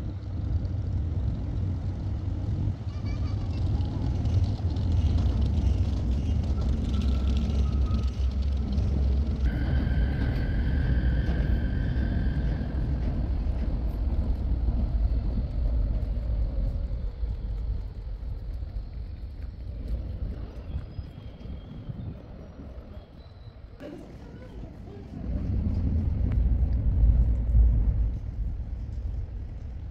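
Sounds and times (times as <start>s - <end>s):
train rumbling: 0.0s - 29.9s.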